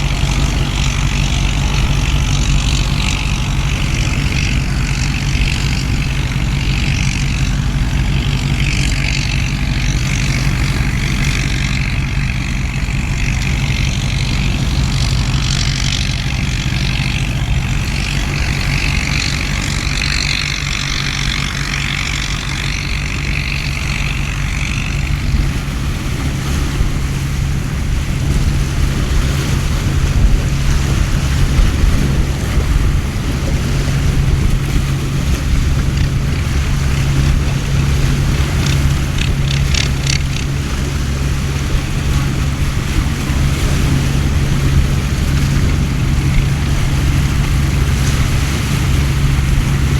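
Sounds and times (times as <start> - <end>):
low rumbling hum: 0.0 - 49.9.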